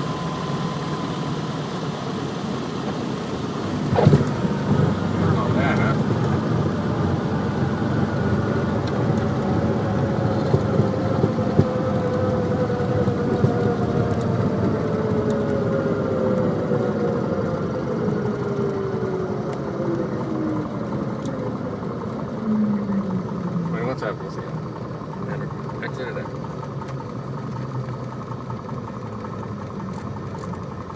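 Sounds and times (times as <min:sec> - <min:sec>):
light aircraft engine idling: 0:00.0 - 0:30.9.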